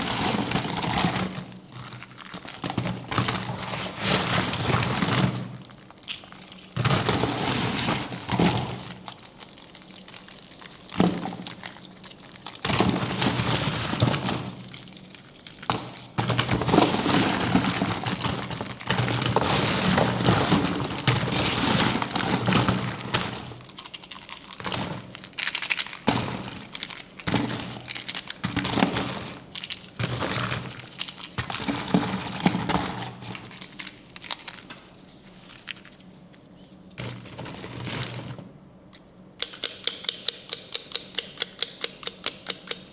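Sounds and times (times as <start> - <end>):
packaging crinkling and tearing: 0.0 - 38.4.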